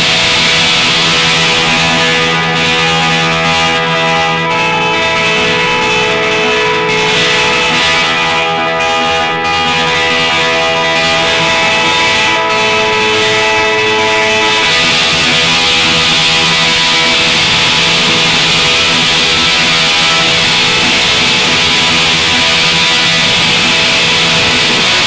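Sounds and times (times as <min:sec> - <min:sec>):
guitar instrumental music: 0:00.0 - 0:25.0.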